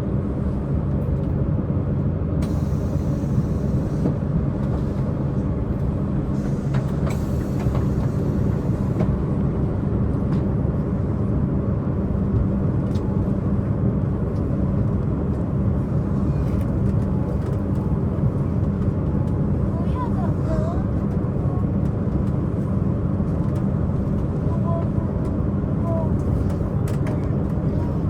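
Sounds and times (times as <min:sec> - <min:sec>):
diesel engine drone: 0:00.0 - 0:28.0
train wheels rumbling on rails: 0:00.1 - 0:28.0.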